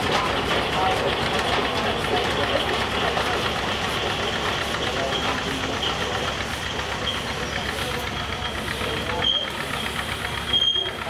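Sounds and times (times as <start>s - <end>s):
steam engine running: 0.0s - 11.0s.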